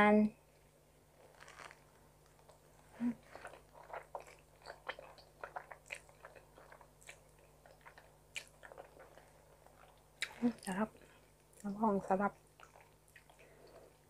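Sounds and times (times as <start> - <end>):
person chewing food: 1.2 - 11.7, 12.4 - 14.0.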